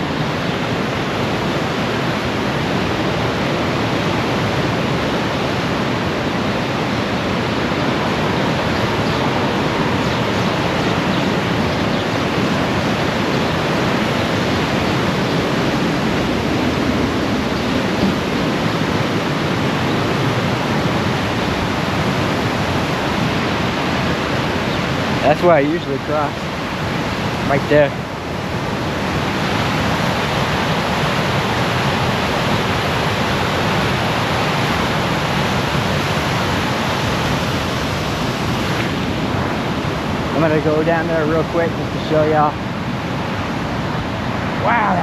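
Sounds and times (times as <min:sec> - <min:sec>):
river rushing in flood: 0:00.0 - 0:45.0.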